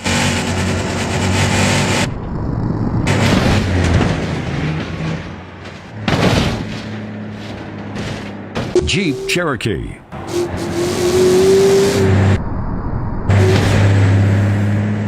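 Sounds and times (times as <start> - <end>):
rough rumbling noise: 0.0 - 14.9.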